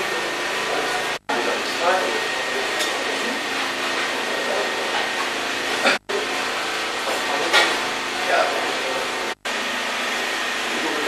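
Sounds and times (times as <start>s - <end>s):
electric fan whirring: 0.0s - 11.0s.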